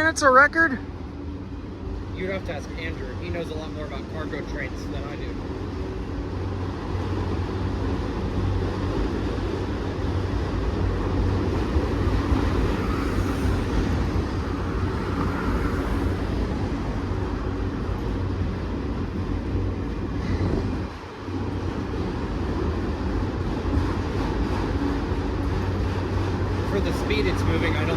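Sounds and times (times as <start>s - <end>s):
constant hum: 0.0s - 27.9s
freight train wheels rumbling on rail: 0.9s - 27.9s.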